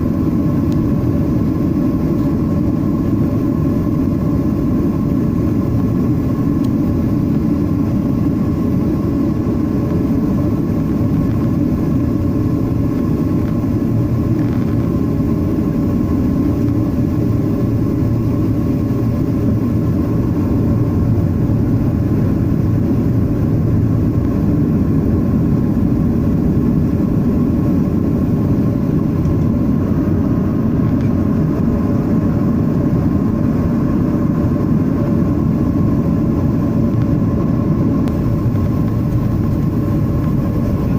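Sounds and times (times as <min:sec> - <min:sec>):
faint steady hum: 0:00.0 - 0:40.9
jet engine drone in flight: 0:00.0 - 0:40.9.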